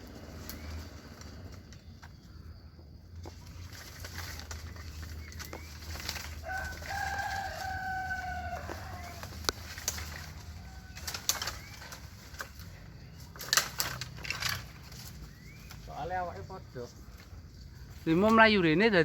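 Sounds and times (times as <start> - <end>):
twigs snapping and rustling: 0.4 - 2.4, 3.1 - 16.4.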